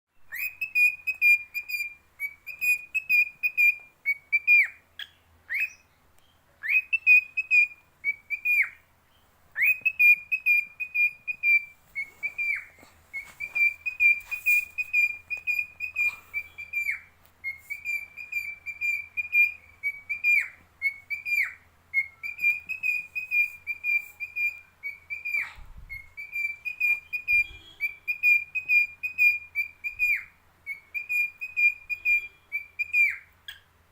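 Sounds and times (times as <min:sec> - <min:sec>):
cockatiel whistling: 0:00.3 - 0:05.9, 0:06.6 - 0:08.8, 0:09.6 - 0:33.6.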